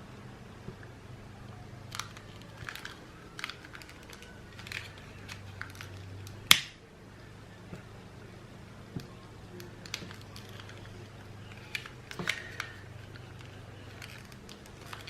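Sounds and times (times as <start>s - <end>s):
light clicks and crackles: 0.7s - 6.7s, 8.9s - 15.0s.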